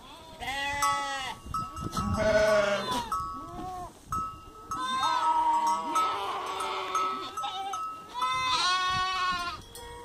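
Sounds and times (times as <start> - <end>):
goats bleating: 0.0 - 3.9, 4.7 - 9.6.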